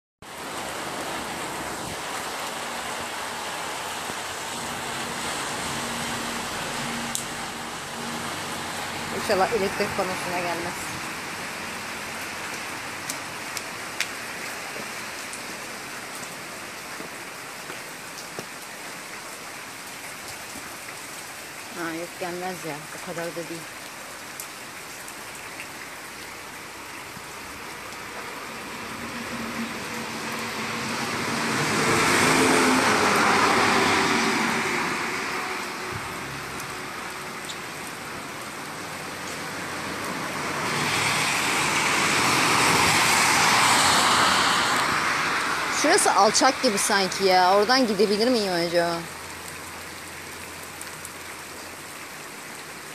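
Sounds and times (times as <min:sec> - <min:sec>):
rain and floodwater washing: 0:00.2 - 0:52.9
rushing river roar: 0:00.3 - 0:52.9.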